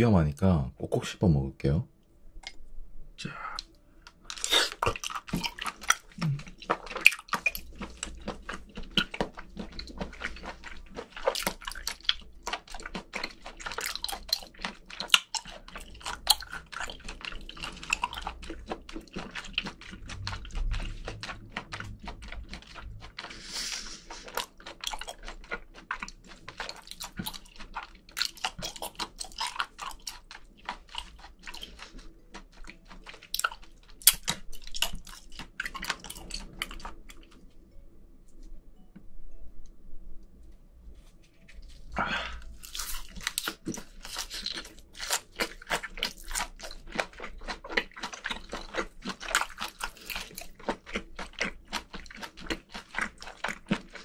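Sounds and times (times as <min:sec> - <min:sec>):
wet chewing: 0:03.6 - 0:37.6, 0:41.4 - 0:54.0.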